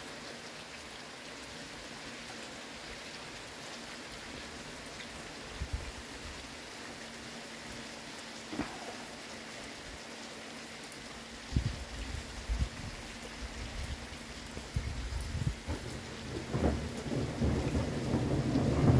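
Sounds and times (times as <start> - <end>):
steady rain hissing: 0.0 - 18.9.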